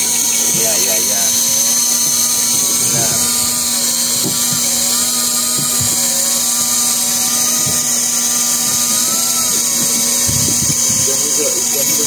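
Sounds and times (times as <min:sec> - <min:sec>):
fishing reel motor whining: 0:00.0 - 0:12.0.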